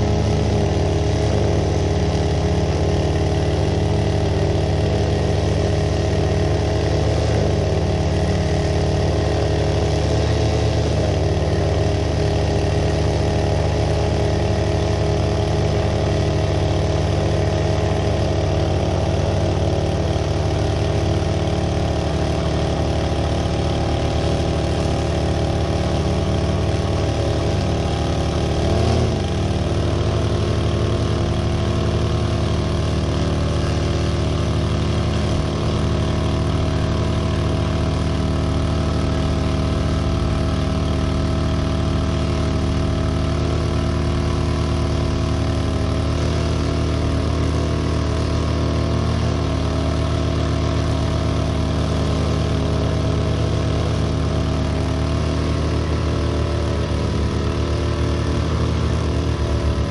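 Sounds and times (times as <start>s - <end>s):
small engine running: 0.0s - 59.9s
string trimmer cutting grass: 0.0s - 59.9s.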